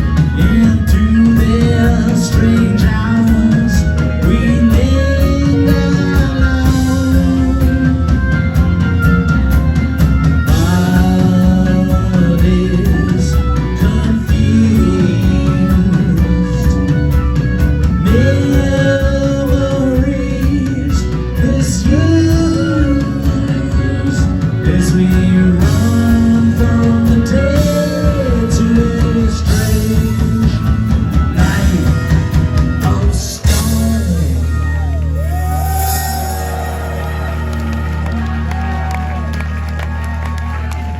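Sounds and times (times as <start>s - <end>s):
electric guitar lead: 0.0s - 40.9s
live rock band playing: 0.0s - 40.9s.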